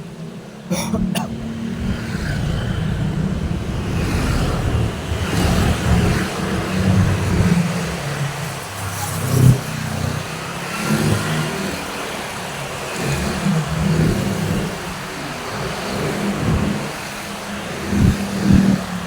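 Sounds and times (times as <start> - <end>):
vehicles passing on road: 0.0 - 19.0.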